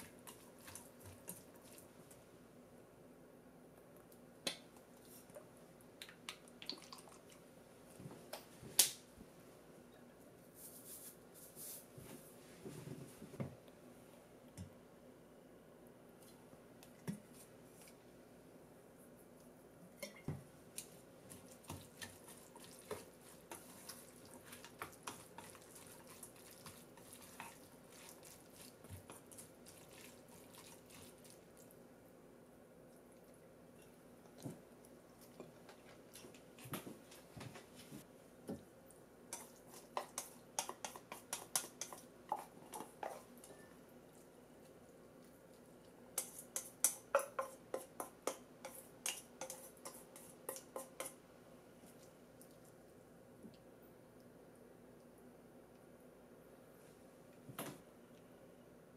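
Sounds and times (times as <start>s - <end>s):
soft wet mixing: 0.0s - 58.9s.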